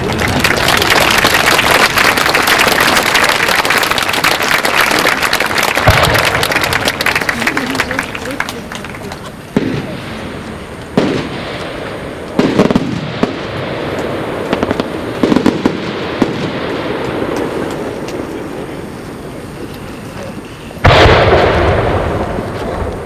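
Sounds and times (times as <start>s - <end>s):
loud firework bangs: 0.0s - 19.6s, 20.4s - 23.0s
fireworks crackling: 0.0s - 23.0s.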